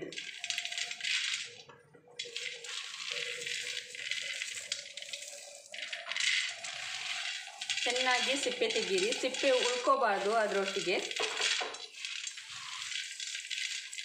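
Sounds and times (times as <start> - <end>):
peanuts rustling between hands: 0.0 - 14.0.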